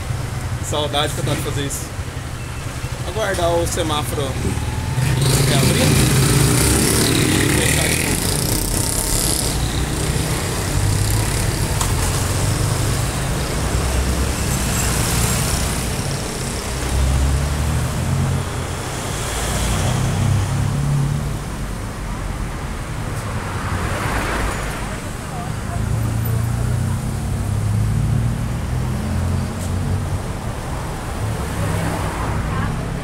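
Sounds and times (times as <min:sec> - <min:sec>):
car and motorcycle engines: 0:00.0 - 0:33.0
vehicles passing close: 0:00.0 - 0:33.0.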